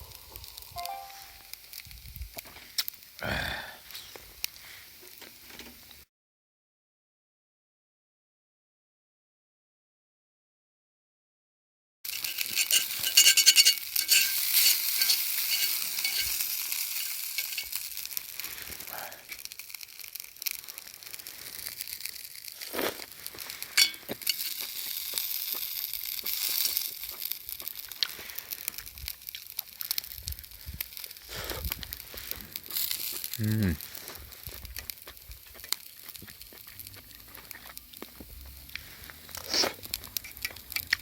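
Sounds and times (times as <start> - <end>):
campfire crackles: 0.0 - 6.0, 12.1 - 41.0
food sizzling in a pan: 0.0 - 6.0, 12.1 - 41.0.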